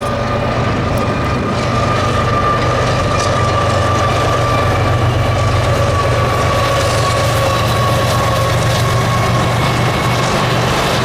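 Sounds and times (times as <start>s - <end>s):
freight train rumbling by: 0.0s - 11.0s
high whine of train: 0.0s - 11.0s.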